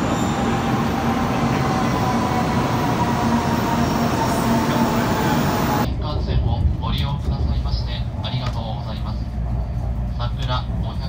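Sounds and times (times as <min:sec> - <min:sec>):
train rushing past: 0:00.0 - 0:11.0.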